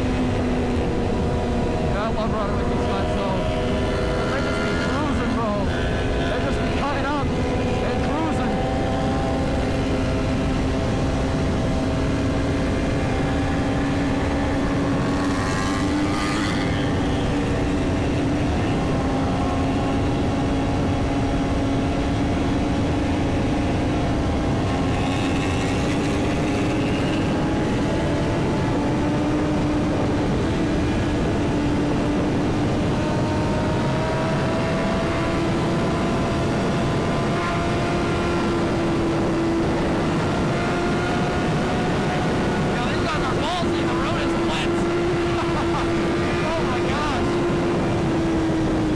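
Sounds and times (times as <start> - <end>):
motorcycle engine cruising: 0.0 - 48.9.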